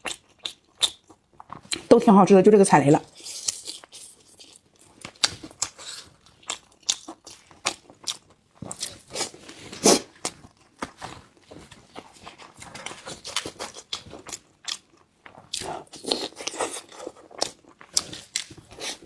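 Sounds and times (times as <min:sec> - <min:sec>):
crunching and wet chewing: 0:00.0 - 0:01.9, 0:03.0 - 0:19.0.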